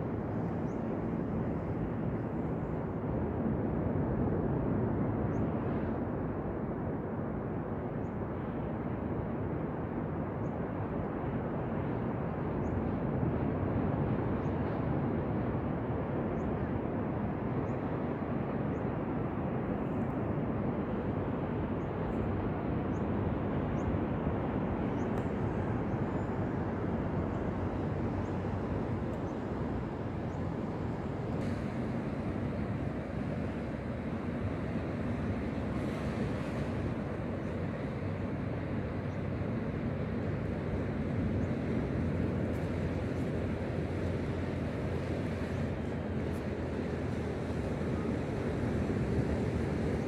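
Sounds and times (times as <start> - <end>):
ocean waves washing: 8.4 - 50.0.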